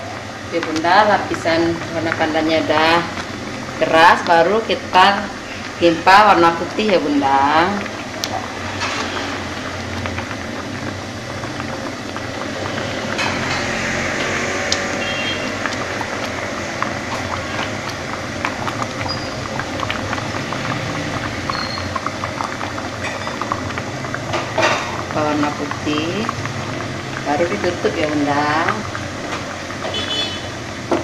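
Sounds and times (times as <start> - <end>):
water boiling and bubbling: 0.0 - 31.0.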